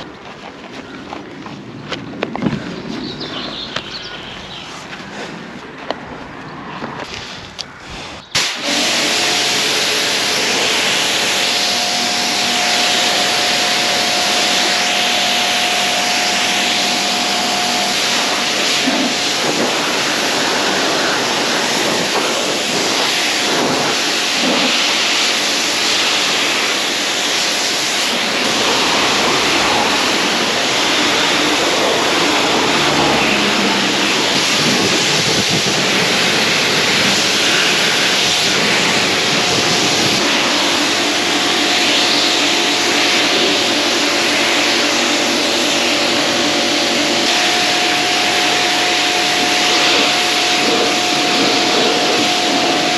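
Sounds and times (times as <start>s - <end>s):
pressure washer spraying water: 8.4s - 52.9s.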